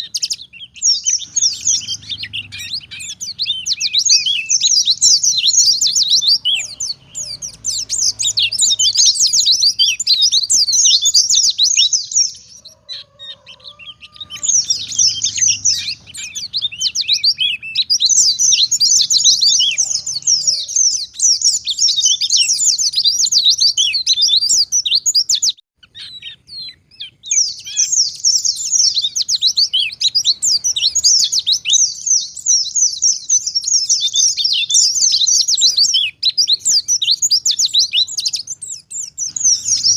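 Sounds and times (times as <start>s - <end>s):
bird high twittering song: 0.0s - 39.9s.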